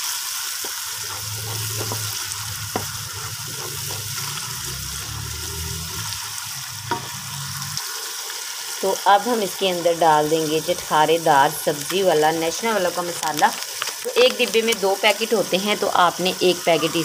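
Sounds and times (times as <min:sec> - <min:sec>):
masala sizzling in a pot: 0:00.0 - 0:17.0.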